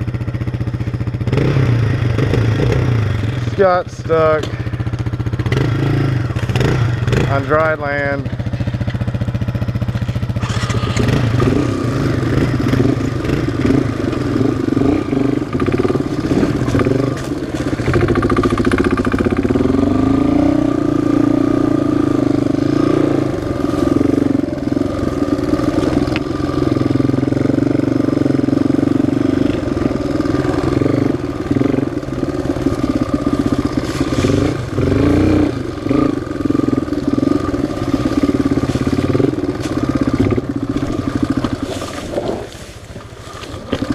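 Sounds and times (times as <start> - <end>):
off-road engine revving: 0.0 - 43.9.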